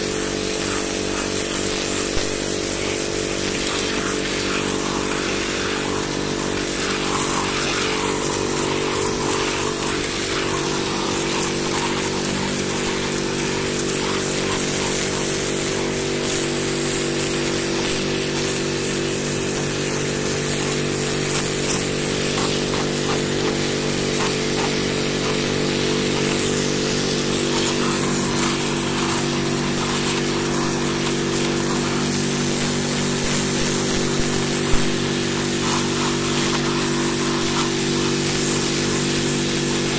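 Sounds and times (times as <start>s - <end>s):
high-pressure water jet hissing: 0.0s - 39.9s
pressure washer motor hum: 0.0s - 39.9s.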